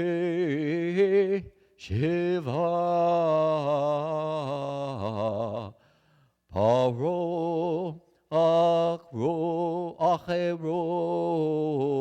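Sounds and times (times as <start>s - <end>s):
man chanting: 0.0s - 5.8s, 6.5s - 12.0s.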